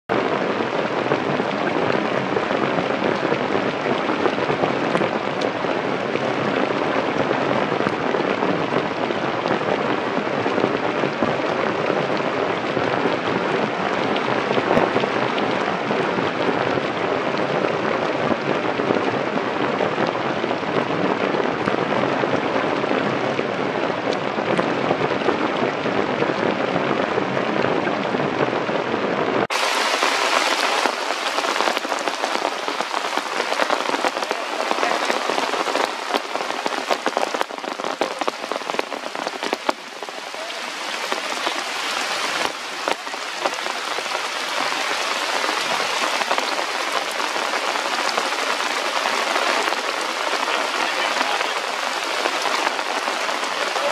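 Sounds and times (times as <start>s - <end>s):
rain on leaves and rock: 0.1s - 53.9s.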